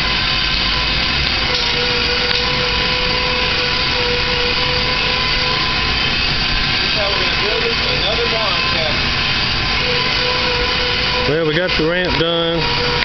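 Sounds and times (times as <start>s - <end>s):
motor running with whine: 0.0s - 13.0s.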